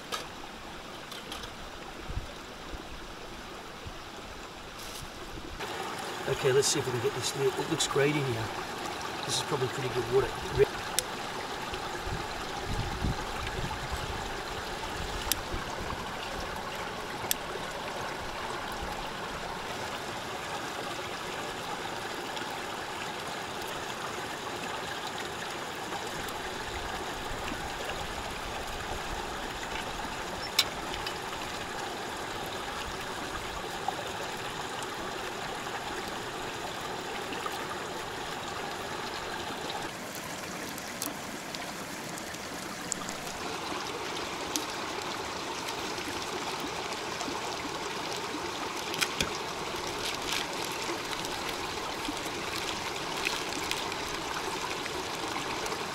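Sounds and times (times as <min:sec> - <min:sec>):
stream trickling over rocks: 0:00.0 - 0:55.9.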